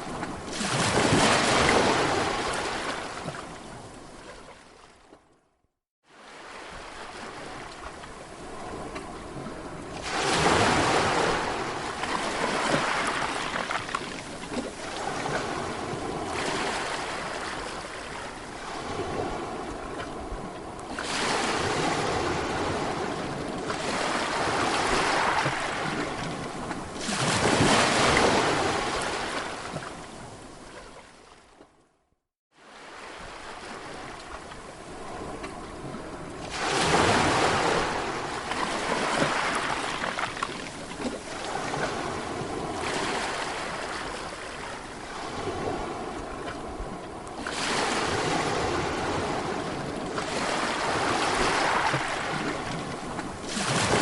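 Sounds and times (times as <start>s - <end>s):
sea waves breaking on shore: 0.0s - 5.3s, 6.0s - 31.8s, 32.5s - 54.0s.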